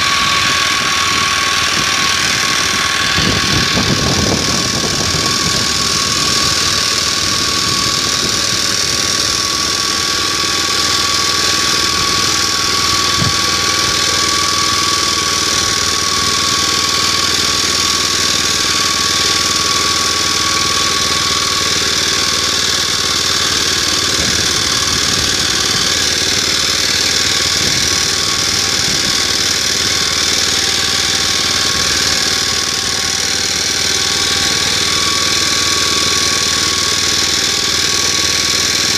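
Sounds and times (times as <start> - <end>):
steady high whine: 0.0 - 38.9
tractor engine running under load: 0.0 - 38.9.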